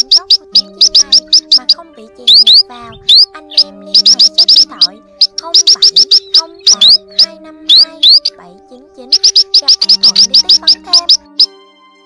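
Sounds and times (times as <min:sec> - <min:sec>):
songbirds chirping: 0:00.0 - 0:11.5.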